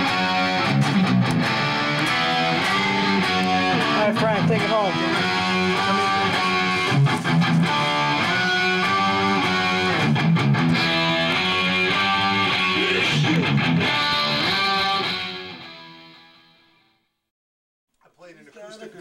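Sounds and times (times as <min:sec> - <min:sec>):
electric guitar: 0:00.0 - 0:16.9.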